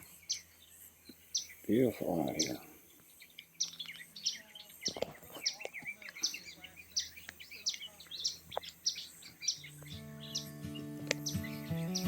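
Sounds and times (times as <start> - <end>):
bird repeating high chirp: 0.0 - 12.0
other bird calls: 0.0 - 12.0.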